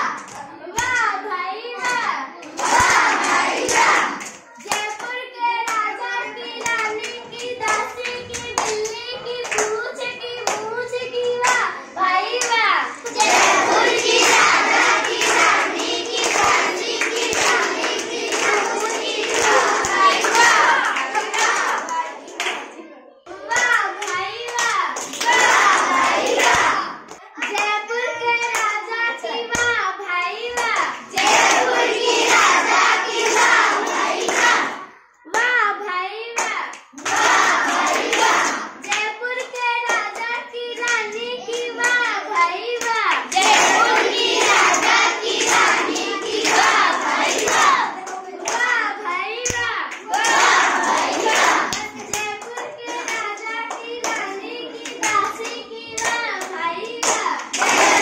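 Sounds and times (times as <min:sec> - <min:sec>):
children clapping: 0:00.0 - 0:01.2, 0:01.8 - 0:29.8, 0:30.5 - 0:35.5, 0:36.4 - 0:58.0
children chanting in unison: 0:00.0 - 0:58.0.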